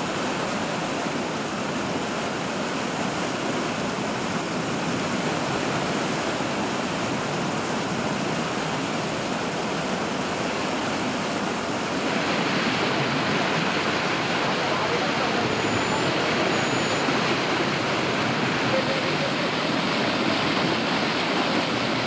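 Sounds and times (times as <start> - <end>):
water rushing through canal: 0.0 - 22.0.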